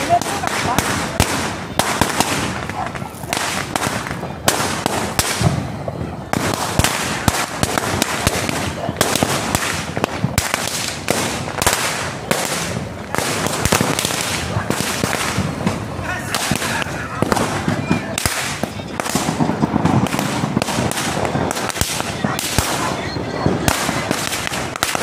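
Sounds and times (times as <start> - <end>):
firecrackers cracking: 0.0 - 25.0.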